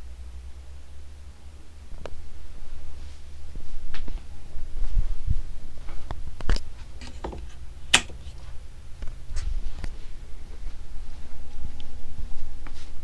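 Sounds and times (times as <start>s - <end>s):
ceiling fan rumble: 0.0s - 13.0s.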